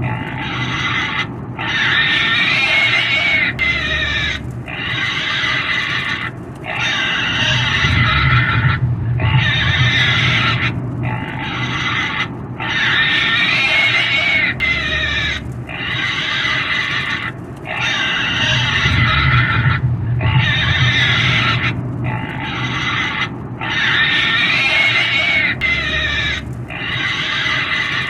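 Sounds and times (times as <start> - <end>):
pig squealing: 0.0 - 28.0.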